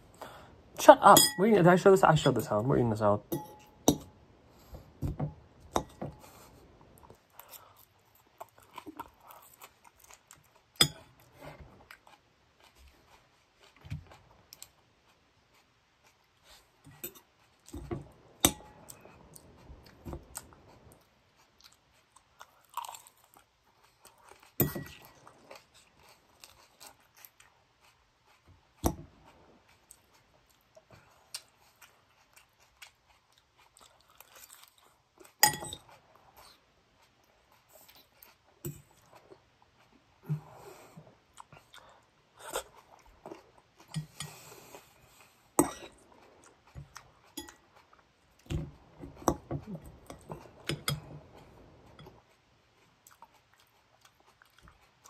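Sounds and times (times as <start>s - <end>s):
person chewing crunchy salad: 4.5s - 55.0s.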